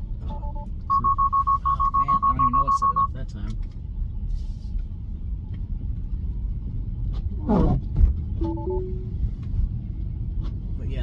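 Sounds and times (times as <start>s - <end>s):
road and tyre rumble in car: 0.0s - 11.0s.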